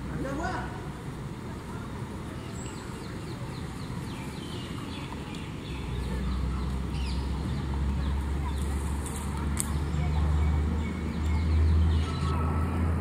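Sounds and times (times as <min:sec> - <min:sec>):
birds chirping: 0:02.1 - 0:12.9.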